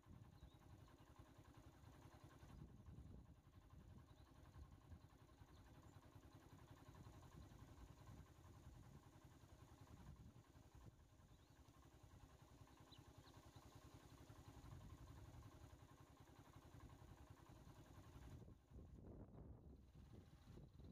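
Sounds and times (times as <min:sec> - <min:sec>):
faint idling vehicle engine: 0:00.0 - 0:20.9.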